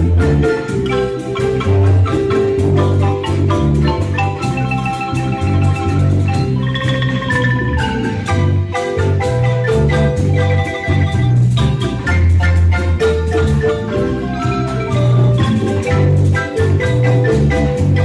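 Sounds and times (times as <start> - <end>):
marimba ensemble playing: 0.0 - 18.0.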